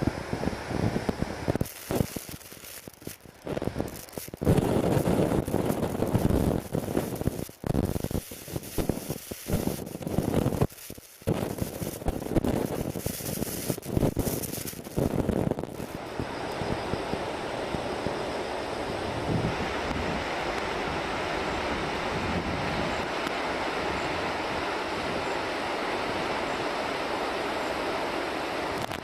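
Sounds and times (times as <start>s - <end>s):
wind buffeting microphone: 0.0s - 26.7s.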